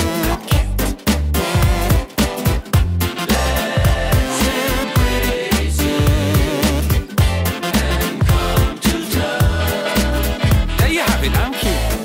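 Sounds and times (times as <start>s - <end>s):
song with heavy bass and drums: 0.0s - 12.0s.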